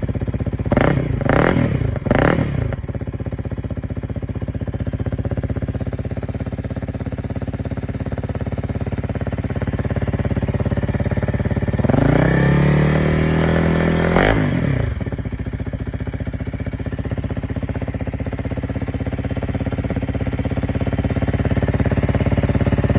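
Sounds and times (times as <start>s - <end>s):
motorcycle engine idling and revving: 0.0s - 22.9s.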